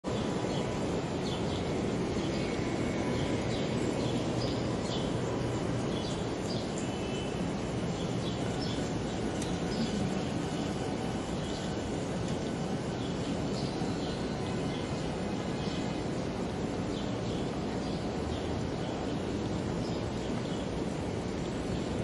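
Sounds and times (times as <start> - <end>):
low hum of traffic: 0.0 - 22.0
small birds chirping: 0.1 - 22.0.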